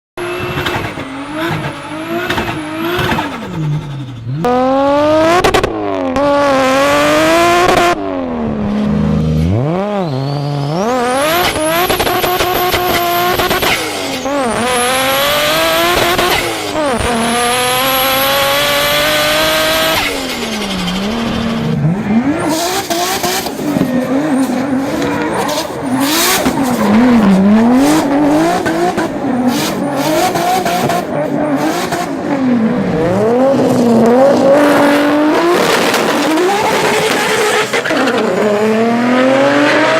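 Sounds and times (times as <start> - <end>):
car engines revving: 0.2 - 39.9.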